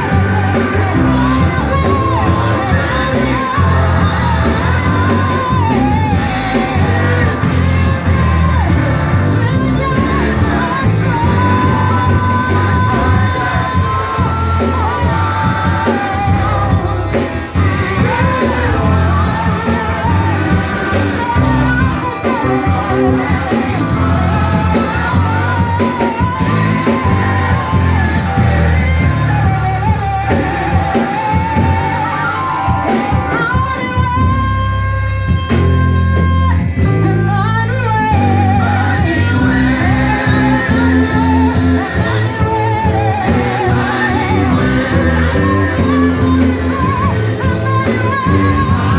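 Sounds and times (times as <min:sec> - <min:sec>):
guitar: 0:00.0 - 0:48.9
heavy bass line: 0:00.0 - 0:48.9
singing over a band: 0:00.0 - 0:48.9.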